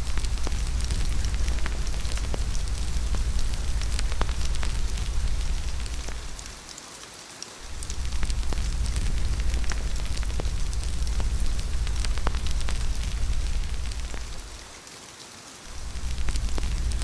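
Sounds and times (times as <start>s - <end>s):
low rumble: 0.0s - 6.6s, 7.6s - 14.7s, 15.7s - 17.0s
wood fire crackling: 0.0s - 14.8s, 15.6s - 17.0s
steady rain: 0.0s - 17.0s.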